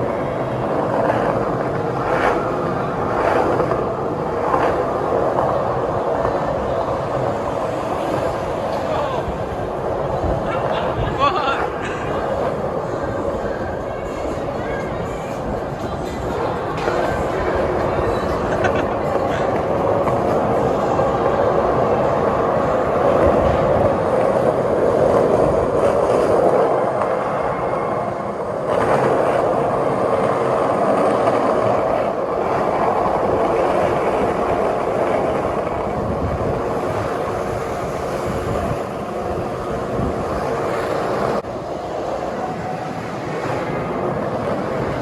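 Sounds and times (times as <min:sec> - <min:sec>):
skate wheels rolling on pavement: 0:00.0 - 0:45.0.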